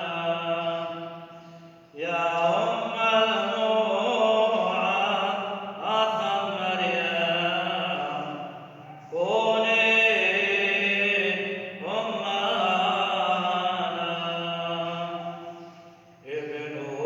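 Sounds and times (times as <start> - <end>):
person chanting a prayer: 0.0 - 17.0.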